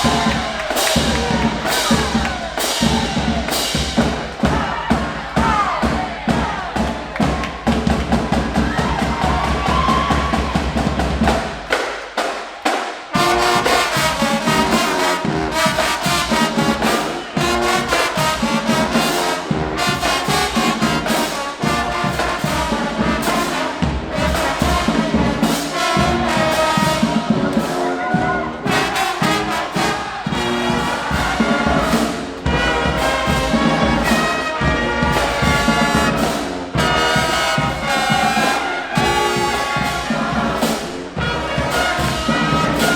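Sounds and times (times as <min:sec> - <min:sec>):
brass section: 0:00.0 - 0:42.9
drums: 0:00.0 - 0:42.9
marching band playing: 0:00.0 - 0:42.9.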